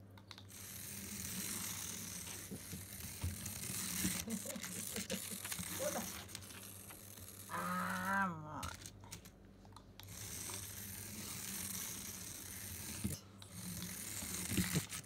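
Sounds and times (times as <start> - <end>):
dog mouthing toy clicks and scrapes: 0.2 - 7.4, 10.0 - 15.0
small electric motor whirring: 0.4 - 9.3, 10.0 - 15.0.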